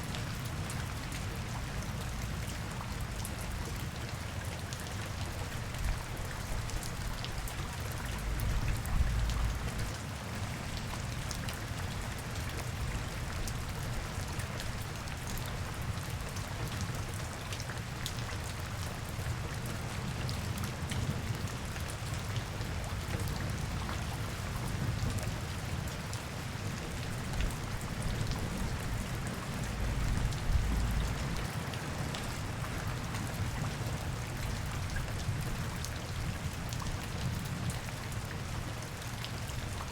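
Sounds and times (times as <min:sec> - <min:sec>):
rain spattering on surfaces: 0:00.0 - 0:39.9.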